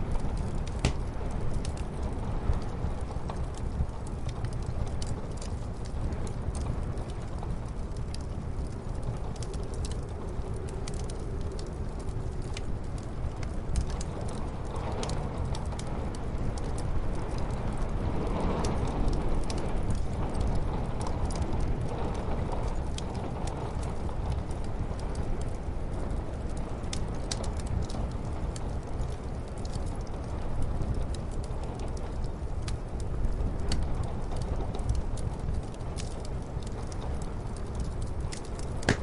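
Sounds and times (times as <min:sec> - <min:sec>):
muffled snowstorm wind: 0:00.0 - 0:39.0
sharp fire pops: 0:00.0 - 0:39.0
wood fire crackling: 0:00.0 - 0:39.0.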